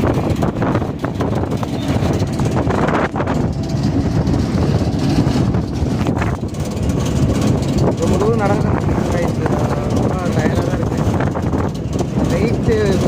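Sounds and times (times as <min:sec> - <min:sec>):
truck engine and road rumble: 0:00.0 - 0:13.0
wind buffeting microphone: 0:00.0 - 0:13.0.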